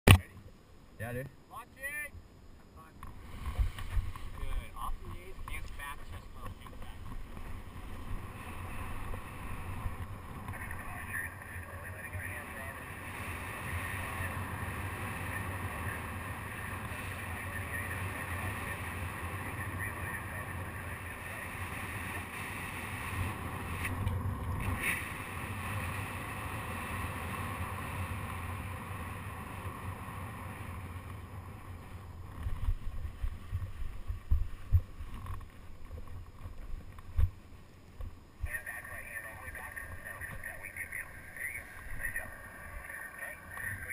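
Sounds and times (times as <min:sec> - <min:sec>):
wind rushing over camera: 0:03.0 - 0:43.9.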